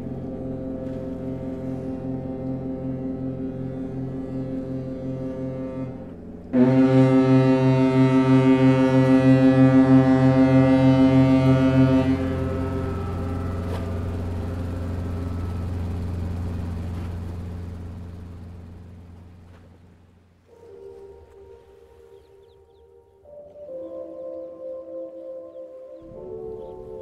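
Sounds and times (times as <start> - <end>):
deep ship's horn: 0.0 - 27.0.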